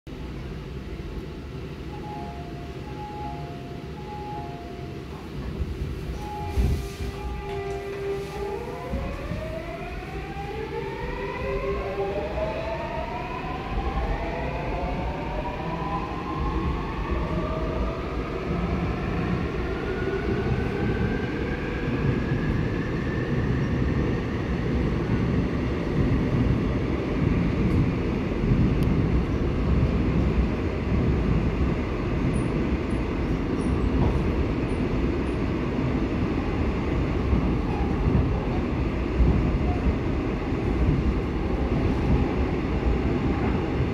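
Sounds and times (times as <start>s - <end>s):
train inverter whine: 0.1s - 43.9s
train rumble in tunnel: 0.1s - 43.9s.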